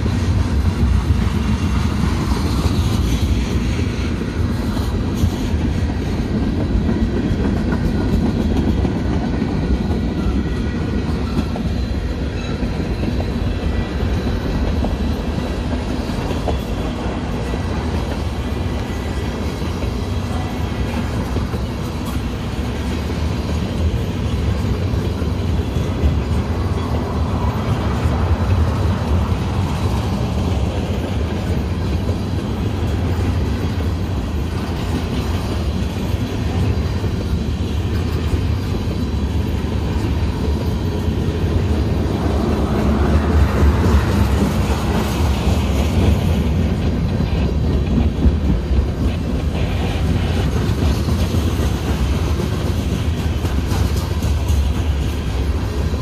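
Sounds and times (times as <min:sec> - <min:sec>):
freight train rumbling past: 0:00.0 - 0:56.0
wheels clacking over rail joints: 0:00.0 - 0:56.0.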